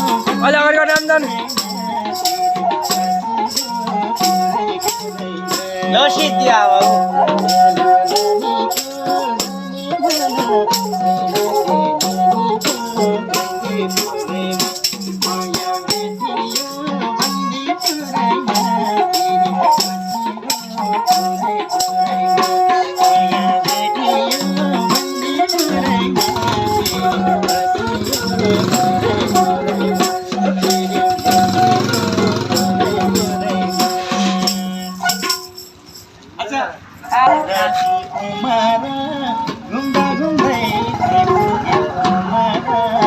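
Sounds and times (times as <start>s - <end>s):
jingling rattle beat: 0.0s - 38.2s.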